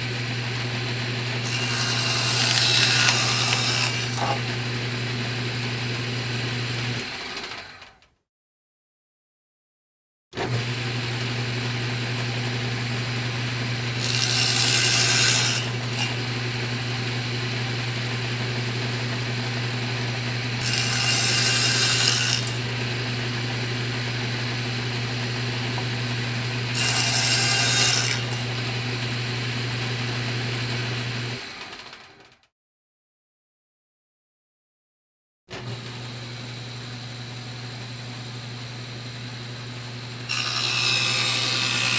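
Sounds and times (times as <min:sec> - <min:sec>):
electric saw running: 0:00.0 - 0:08.0, 0:10.4 - 0:32.3, 0:35.5 - 0:41.9
saw cutting: 0:00.0 - 0:08.0, 0:10.4 - 0:32.2, 0:35.6 - 0:41.9
saw motor winding down: 0:00.0 - 0:08.0, 0:10.4 - 0:32.3, 0:35.6 - 0:41.9.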